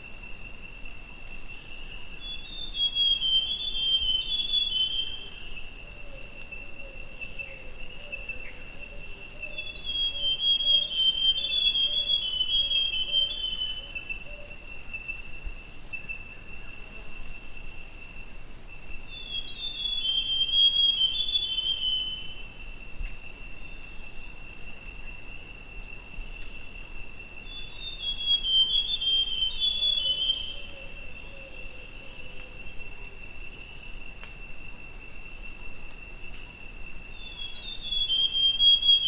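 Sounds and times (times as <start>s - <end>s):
high insect drone: 0.0s - 39.0s.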